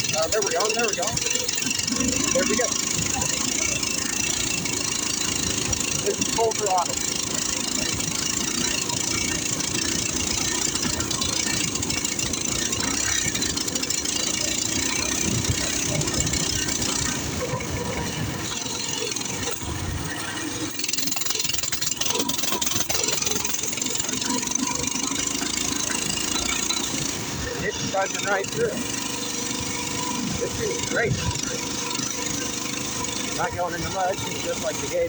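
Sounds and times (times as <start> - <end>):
minibike engine buzzing: 0.0 - 35.0.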